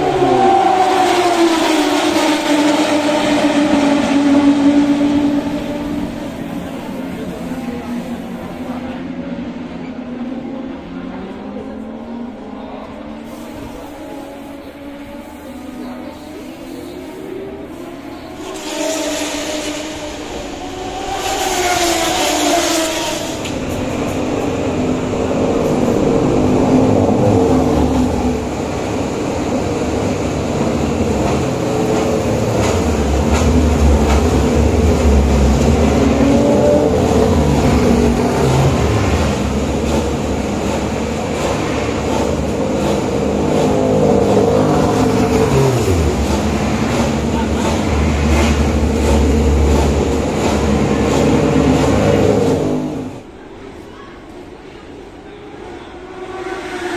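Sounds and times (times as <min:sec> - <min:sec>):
racing motorcycle engines: 0:00.0 - 0:53.3.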